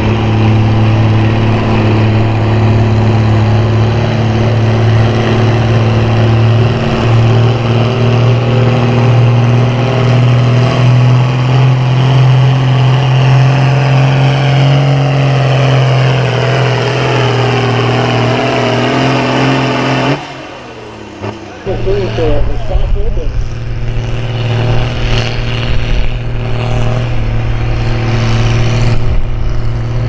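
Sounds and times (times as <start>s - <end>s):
diesel tractor engine at high revs: 0.0s - 30.0s.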